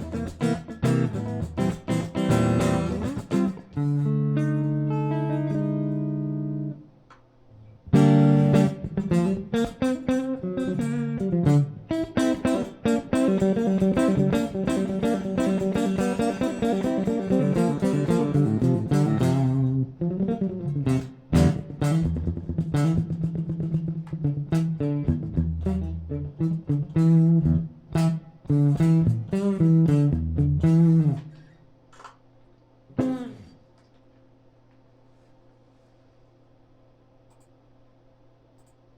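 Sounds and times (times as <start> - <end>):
electric guitar playing: 0.0 - 6.9, 7.6 - 31.6, 33.0 - 33.6.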